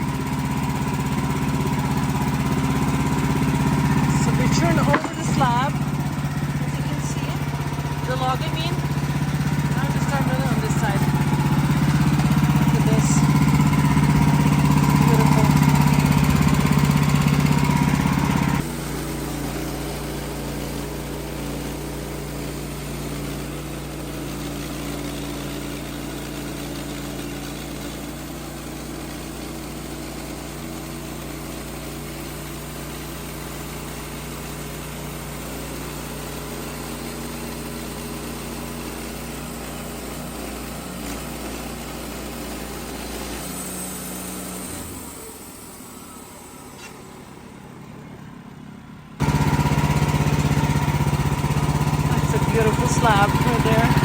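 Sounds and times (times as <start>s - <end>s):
small engine humming: 0.0s - 54.0s.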